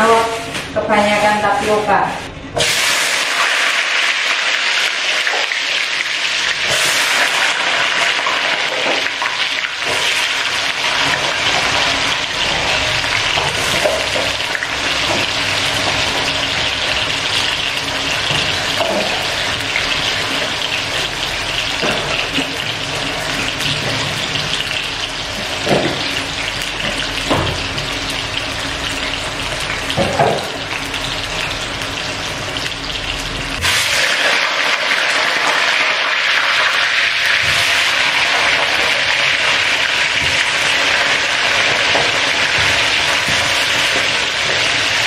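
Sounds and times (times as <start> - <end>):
food sizzling in hot oil: 2.6 - 45.0.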